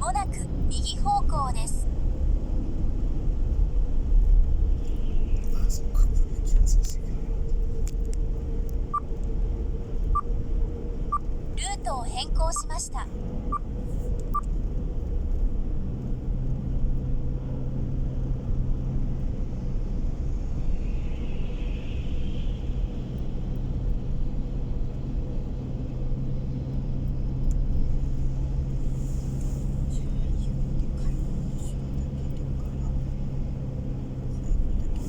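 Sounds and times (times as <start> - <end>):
low engine hum: 0.0 - 35.0
road noise inside car: 0.0 - 35.0.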